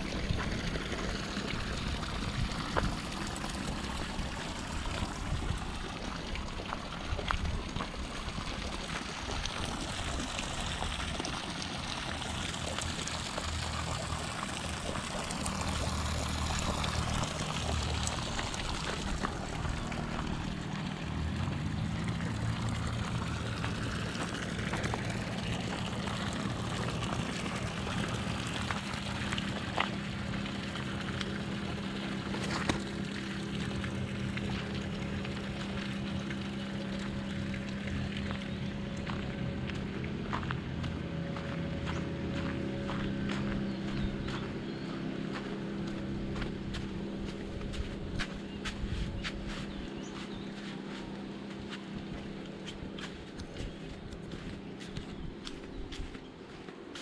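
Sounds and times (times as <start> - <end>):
low motor hum: 0.0 - 57.0
trickling water: 0.0 - 57.0.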